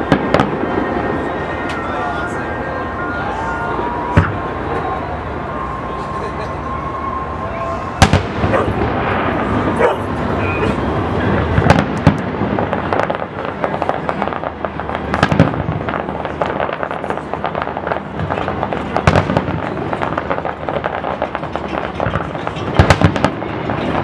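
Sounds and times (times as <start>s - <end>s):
fireworks booms: 0.0s - 3.0s, 3.7s - 5.7s, 7.9s - 24.0s
fireworks crackling: 0.0s - 24.0s.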